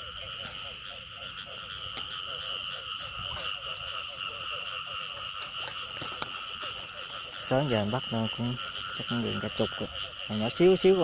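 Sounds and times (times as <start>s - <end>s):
frogs croaking: 0.0s - 11.0s
frogs ringing chorus: 0.0s - 11.0s.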